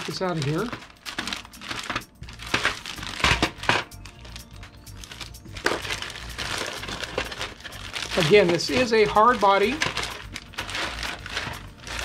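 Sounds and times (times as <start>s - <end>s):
faint background music: 0.0s - 12.0s
plastic bag crinkling: 0.0s - 12.0s.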